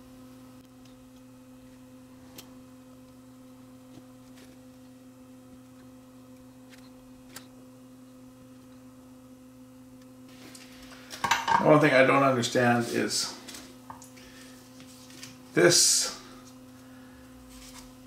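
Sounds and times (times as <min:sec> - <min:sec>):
faint electrical mains hum: 0:00.0 - 0:18.0.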